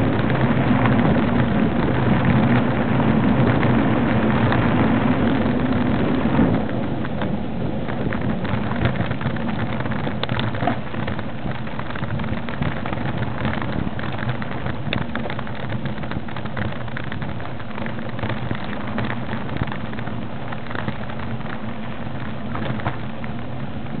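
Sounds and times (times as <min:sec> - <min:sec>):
crackling rattling noise: 0:00.0 - 0:24.0
vehicle engine running: 0:00.0 - 0:24.0.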